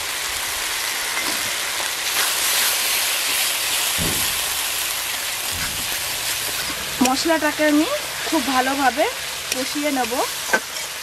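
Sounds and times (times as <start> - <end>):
spice paste sizzling in hot oil: 0.0 - 11.0.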